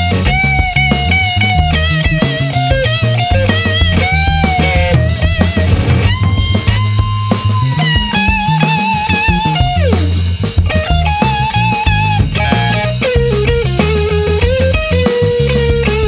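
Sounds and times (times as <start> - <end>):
drums and bass: 0.0 - 16.0
guitar held notes with vibrato: 0.0 - 16.0.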